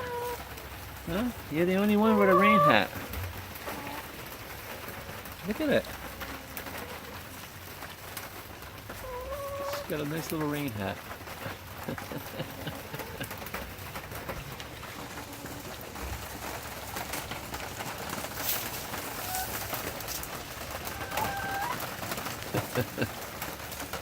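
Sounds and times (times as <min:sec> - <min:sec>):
hens clucking softly: 0:00.0 - 0:10.5, 0:11.2 - 0:24.0
heavy rain hissing: 0:00.0 - 0:24.0.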